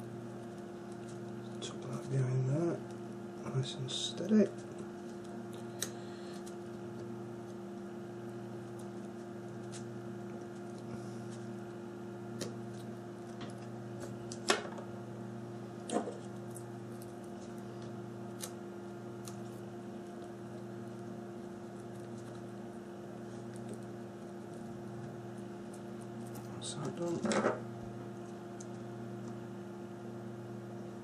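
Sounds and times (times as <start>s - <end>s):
electrical hum: 0.0s - 31.0s.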